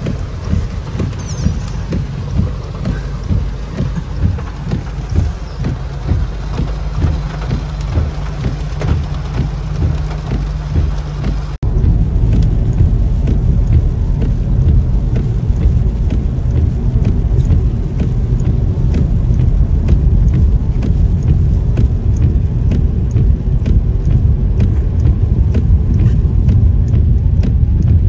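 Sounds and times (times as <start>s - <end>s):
engine and tyres rumble: 0.0s - 28.0s
light ticks: 0.0s - 28.0s.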